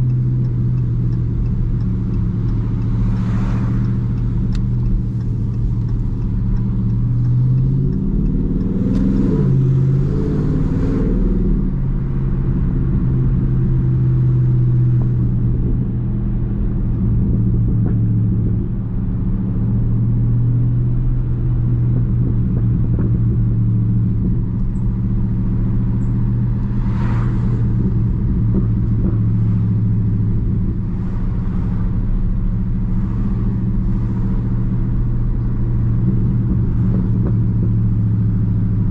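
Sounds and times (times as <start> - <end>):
car engine cruising: 0.0 - 38.9.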